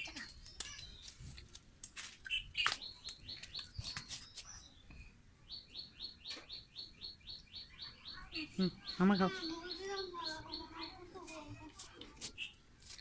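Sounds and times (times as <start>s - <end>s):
bird chirping: 0.0s - 1.4s, 2.2s - 11.5s, 12.3s - 12.6s.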